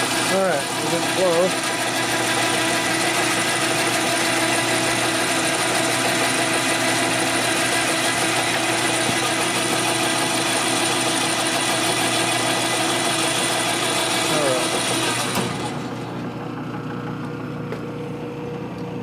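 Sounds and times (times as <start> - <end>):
turning tool cutting metal bar: 0.0 - 16.2
metal lathe motor whining: 0.0 - 18.9.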